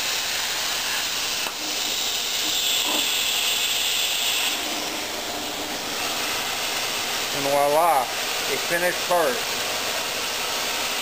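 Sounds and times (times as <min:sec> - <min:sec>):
plasma cutter hissing: 0:00.0 - 0:09.5.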